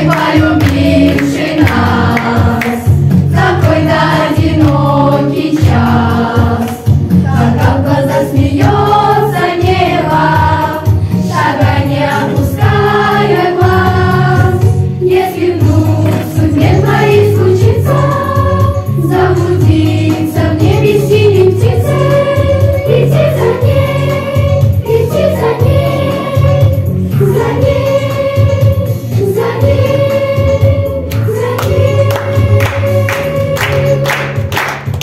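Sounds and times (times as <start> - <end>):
choir singing: 0.0 - 34.5
instrumental backing music: 0.0 - 35.0.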